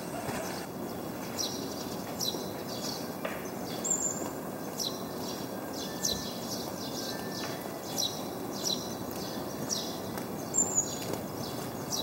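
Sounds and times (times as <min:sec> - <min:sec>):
outdoor background hum: 0:00.0 - 0:12.0
small birds chirping: 0:00.0 - 0:12.0.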